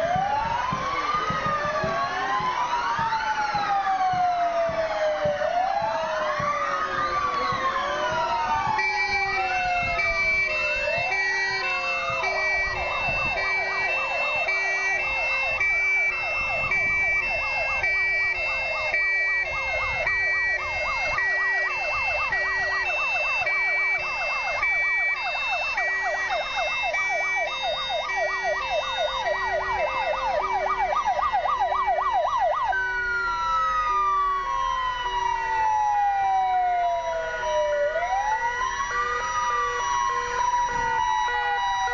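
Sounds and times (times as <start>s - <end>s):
fast yelping siren: 0.0s - 41.9s
rising and falling siren wails: 0.0s - 41.9s
two-tone hi-lo siren: 0.0s - 41.9s.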